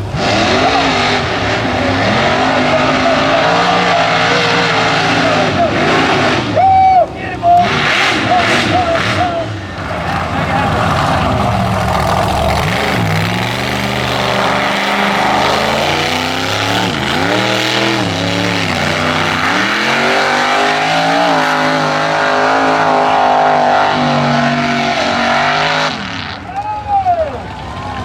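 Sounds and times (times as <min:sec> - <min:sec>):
truck engine revving: 0:00.0 - 0:26.5.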